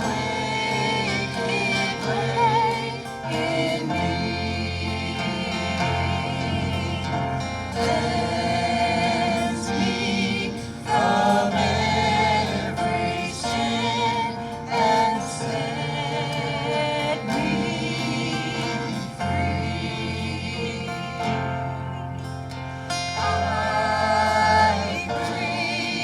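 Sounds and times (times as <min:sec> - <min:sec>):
group singing a hymn: 0:00.0 - 0:26.0
instrumental accompaniment: 0:00.0 - 0:26.0.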